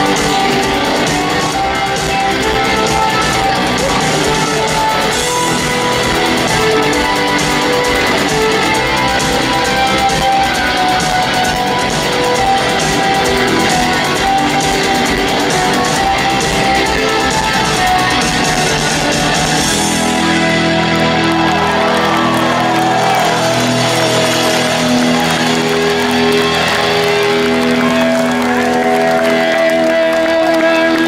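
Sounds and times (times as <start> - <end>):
bass guitar: 0.0 - 31.0
electric guitars: 0.0 - 31.0
keyboard notes: 0.0 - 31.0.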